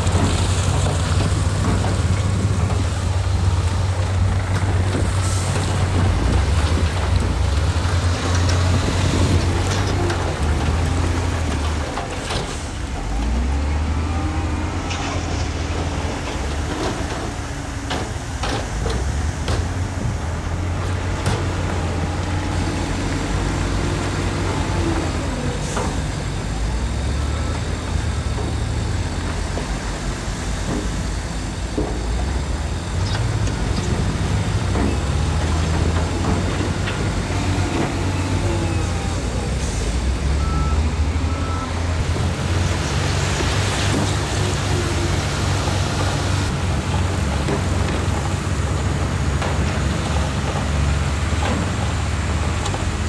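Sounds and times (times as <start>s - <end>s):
heavy diesel machinery rumbling: 0.0s - 53.0s.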